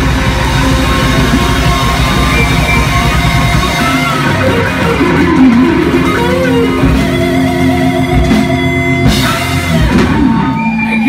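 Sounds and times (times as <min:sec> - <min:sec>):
drum hits: 0:00.0 - 0:10.4
electric guitars ringing: 0:00.0 - 0:11.0.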